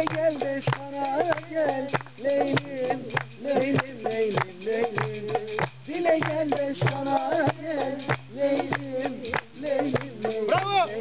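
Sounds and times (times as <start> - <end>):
man singing folk song: 0.0 - 11.0.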